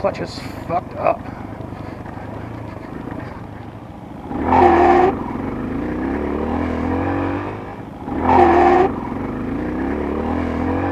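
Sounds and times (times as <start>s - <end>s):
dirt bike engine revving: 0.0s - 10.9s.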